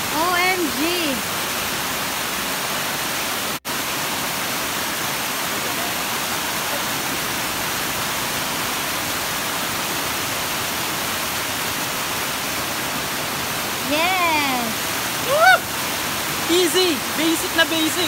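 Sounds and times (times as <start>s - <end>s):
waterfall over rocks: 0.0s - 18.0s.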